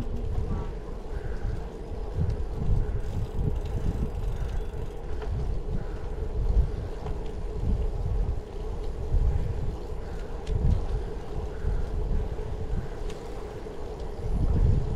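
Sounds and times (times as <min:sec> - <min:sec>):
bicycle rolling hum: 0:00.0 - 0:14.9
wind buffeting microphone: 0:00.0 - 0:14.9.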